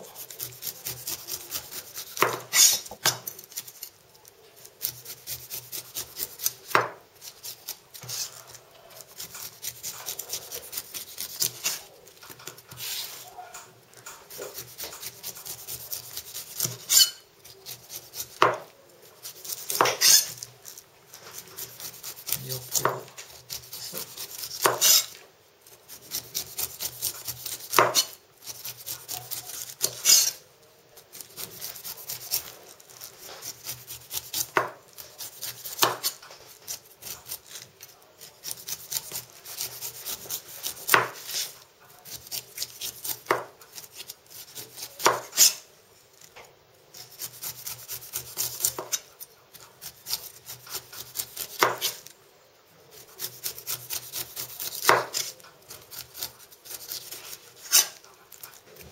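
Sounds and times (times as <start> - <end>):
knife scraping pineapple skin: 0.0 - 52.2, 52.8 - 58.9.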